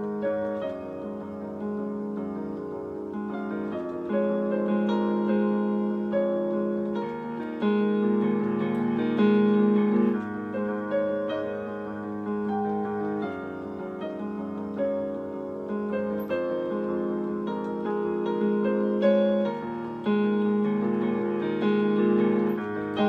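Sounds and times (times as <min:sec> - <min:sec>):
slow solo piano piece: 0:00.0 - 0:23.0.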